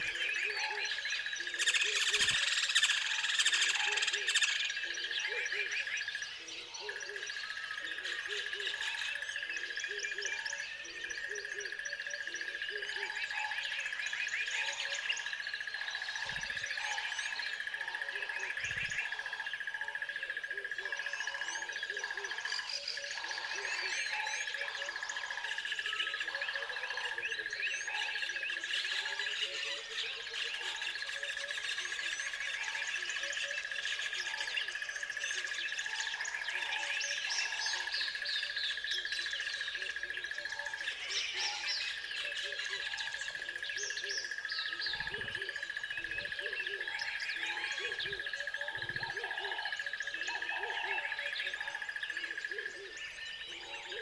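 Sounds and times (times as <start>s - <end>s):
birds chirping and singing: 0.0s - 54.0s
lower repeated bird calls: 0.0s - 54.0s.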